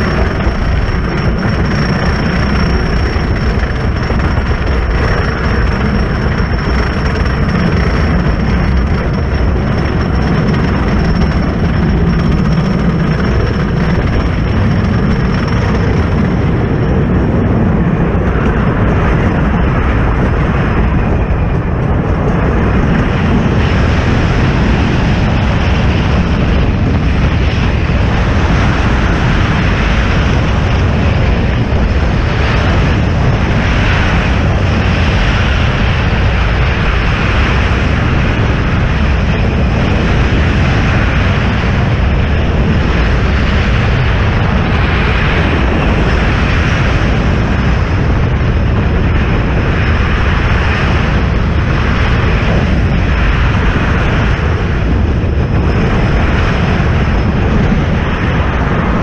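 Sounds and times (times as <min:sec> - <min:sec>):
roller coaster wind and track rumble: 0:00.0 - 0:59.0.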